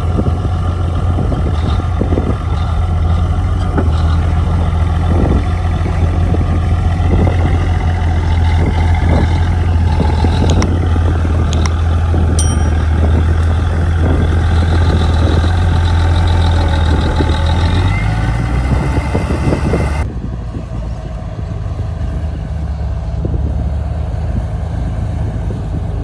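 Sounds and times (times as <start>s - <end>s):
heavy diesel engine humming: 0.0s - 26.0s.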